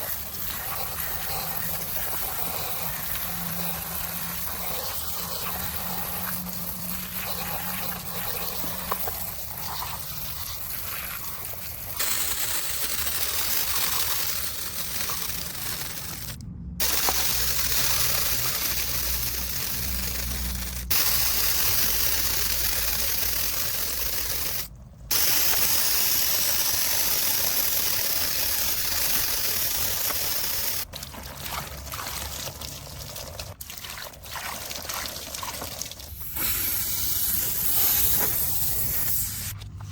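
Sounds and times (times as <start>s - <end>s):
water spraying and trickling: 0.0s - 39.6s.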